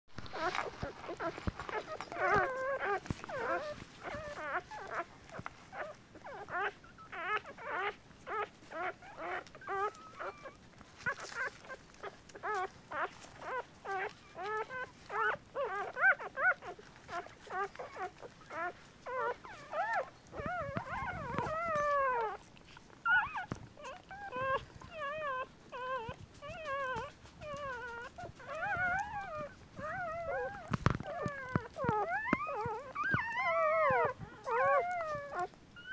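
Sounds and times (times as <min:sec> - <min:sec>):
puppies squealing and whimpering: 0:00.2 - 0:35.9.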